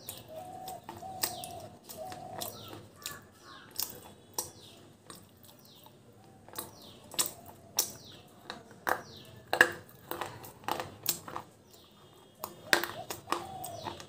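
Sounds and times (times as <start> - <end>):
faint birds chirping: 0.0 - 14.0
teeth crunching dry clay: 0.0 - 14.0.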